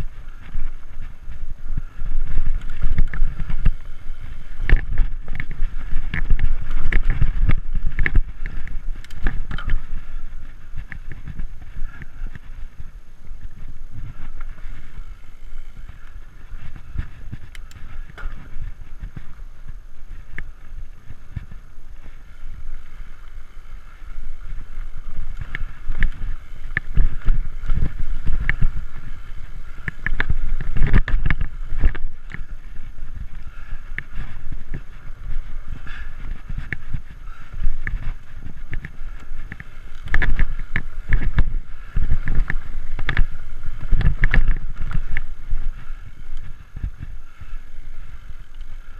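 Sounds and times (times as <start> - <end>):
bike rattling and knocking: 0.0 - 48.9
bike tyres rumbling on dirt: 0.0 - 48.9
wind buffeting microphone: 0.0 - 48.9.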